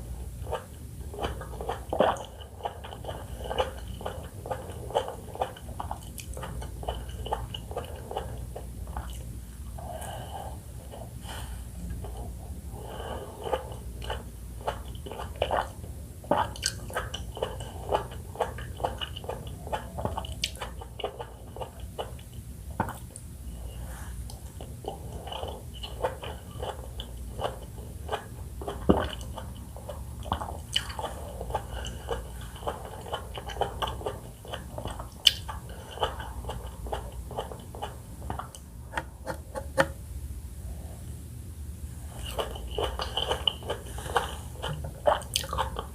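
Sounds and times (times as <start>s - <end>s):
chewing juicy fruit: 0.0s - 39.2s, 42.0s - 45.9s.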